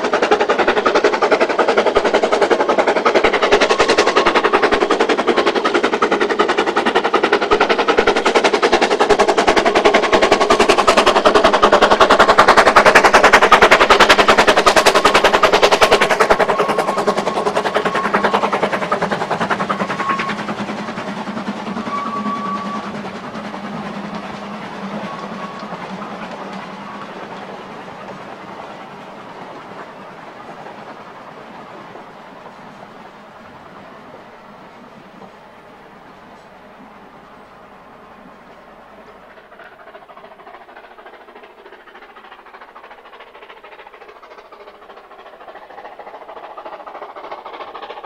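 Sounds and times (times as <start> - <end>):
steam locomotive chuffing: 0.0 - 48.0.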